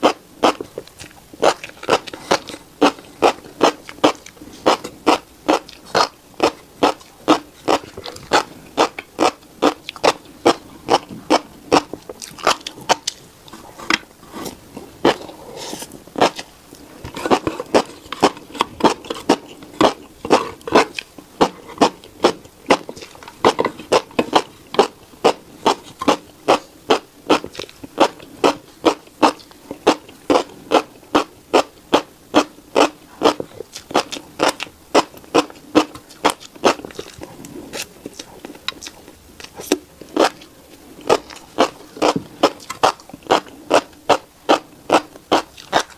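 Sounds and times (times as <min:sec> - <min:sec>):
person chewing seeds: 0:00.0 - 0:45.9.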